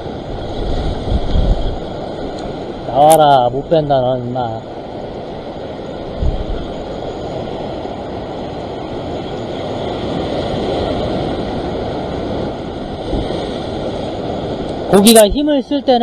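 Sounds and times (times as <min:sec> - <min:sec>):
sea surf washing against rocks: 0:00.0 - 0:16.0.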